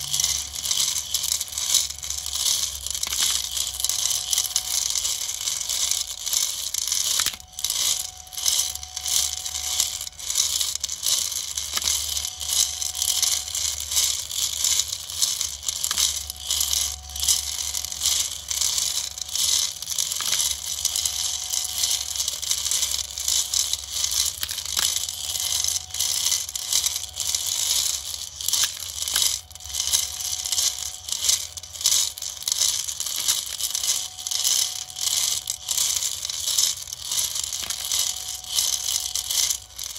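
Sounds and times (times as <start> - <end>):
metal nuts rattling in plastic drum: 0.0 - 39.9
stepper motor hum and whine: 0.0 - 39.9.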